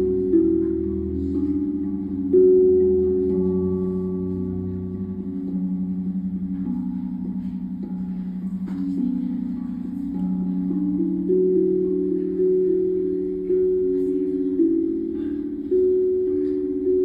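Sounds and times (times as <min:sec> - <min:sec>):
steel tongue drum notes: 0:00.0 - 0:17.0.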